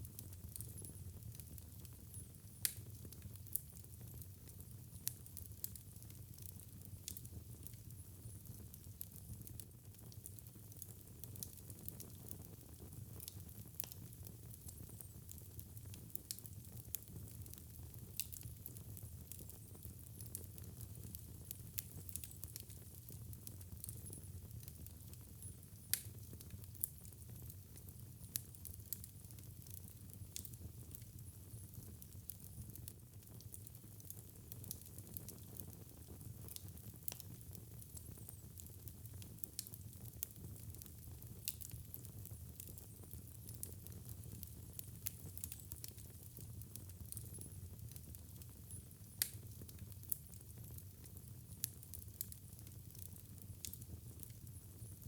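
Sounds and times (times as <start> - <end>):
sharp pops and snaps of fire: 0.0 - 55.0
wood fire crackling: 0.0 - 55.0.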